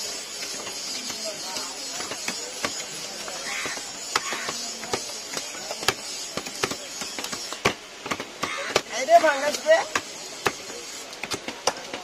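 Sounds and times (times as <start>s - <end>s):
knife chopping on wood: 0.4s - 12.0s.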